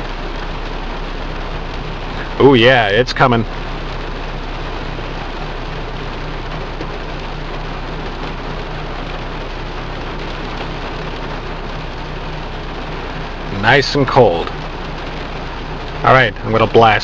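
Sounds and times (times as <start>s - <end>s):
car blower fan rushing: 0.0s - 17.0s
heavy rain on a car: 0.0s - 17.0s
idling engine hum: 0.0s - 17.0s.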